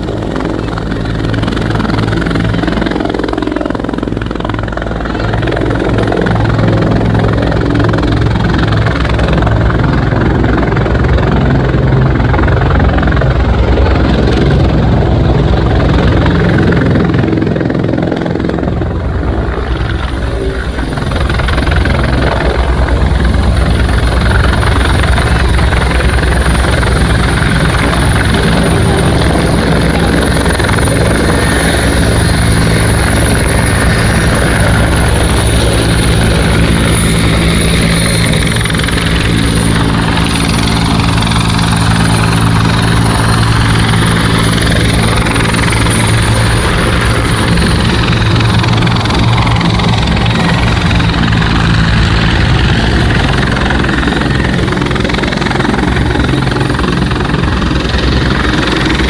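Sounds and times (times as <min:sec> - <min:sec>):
helicopter rotor beat: 0:00.0 - 0:59.0
high whine: 0:00.0 - 0:59.0.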